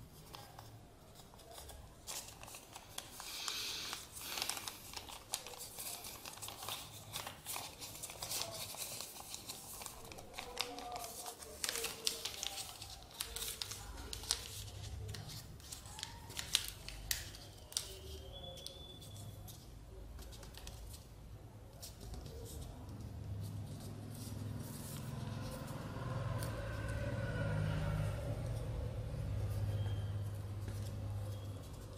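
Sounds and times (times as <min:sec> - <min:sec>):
paper being folded and creased: 0:00.0 - 0:21.1, 0:21.7 - 0:27.0.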